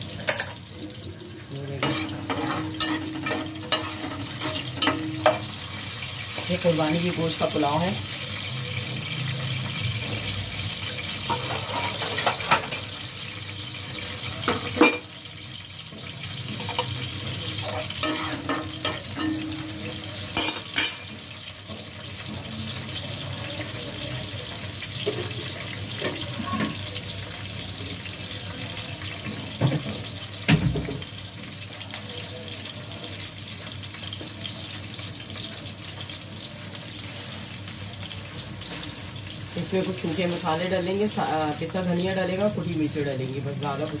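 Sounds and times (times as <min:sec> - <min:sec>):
onions sizzling in oil: 0:00.0 - 0:44.0.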